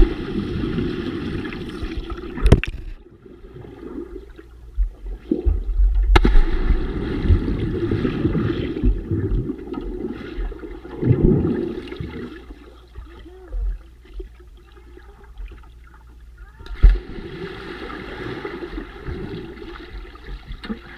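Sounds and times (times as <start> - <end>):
underwater churning water and bubbles: 0.0 - 20.9.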